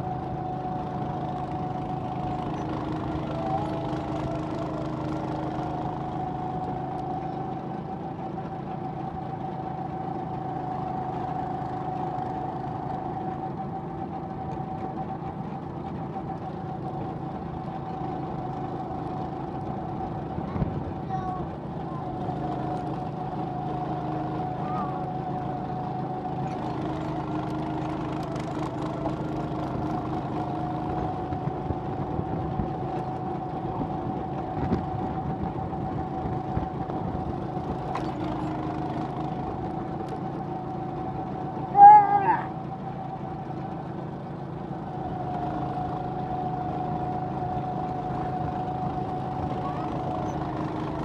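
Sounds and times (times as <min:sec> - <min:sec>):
go-kart motor whine: 0:00.0 - 0:51.0.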